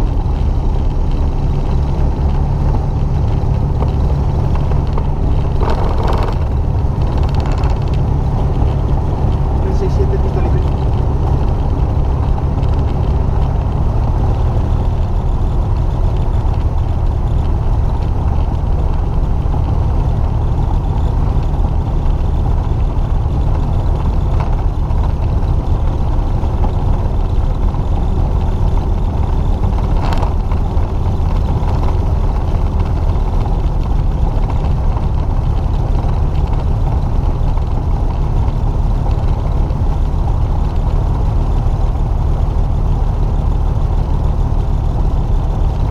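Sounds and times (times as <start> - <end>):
aircraft engine and propeller drone: 0.0 - 45.9.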